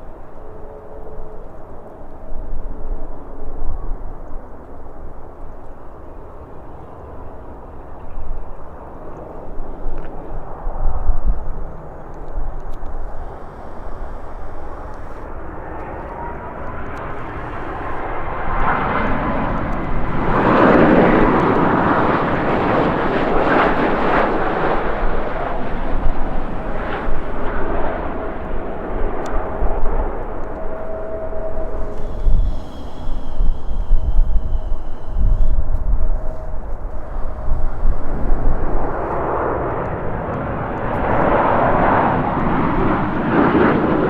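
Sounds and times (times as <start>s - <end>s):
jet airliner passing: 0.0s - 44.0s
jet engine whine: 0.0s - 44.0s
wind rumbling on microphone: 0.0s - 44.0s.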